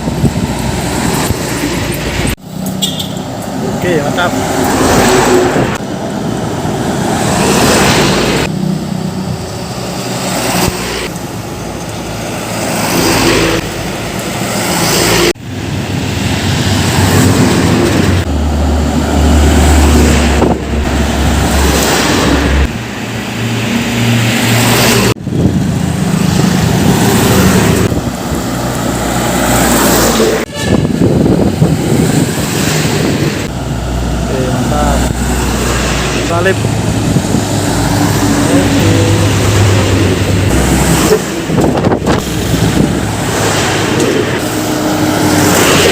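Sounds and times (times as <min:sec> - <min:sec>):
diesel trucks driving past: 0:00.0 - 0:45.9.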